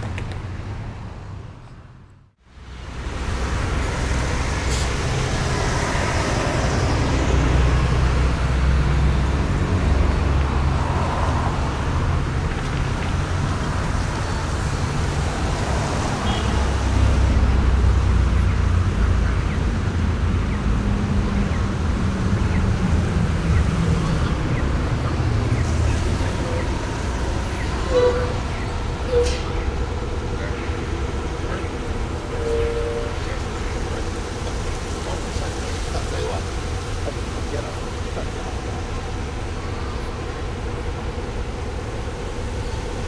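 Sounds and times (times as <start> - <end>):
traffic rumble: 0.0 - 43.0.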